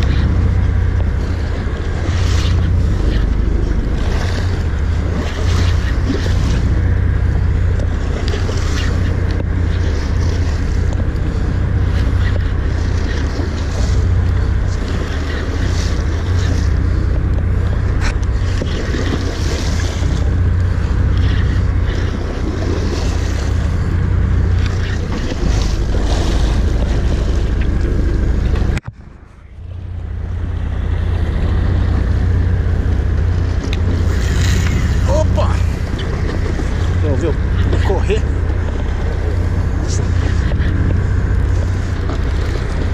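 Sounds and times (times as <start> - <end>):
water washing along hull: 0.0 - 42.9
wind buffeting microphone: 0.0 - 42.9.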